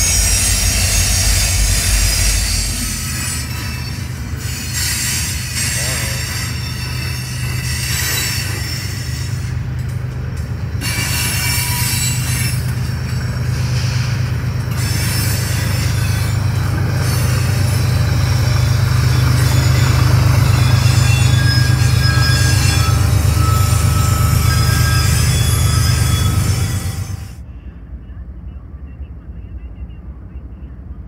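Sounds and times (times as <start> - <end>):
wheel squeal: 0.0 - 9.5, 10.8 - 12.8, 13.6 - 27.3
train rumbling past: 0.0 - 28.8.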